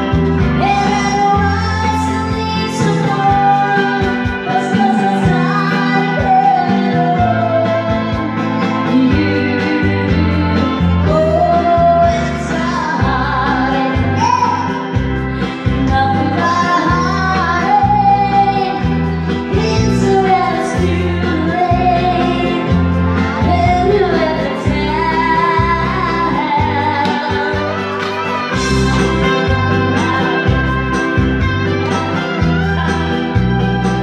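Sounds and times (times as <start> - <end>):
backing track with guitar and bass: 0.0 - 34.0
woman singing karaoke: 0.0 - 34.0.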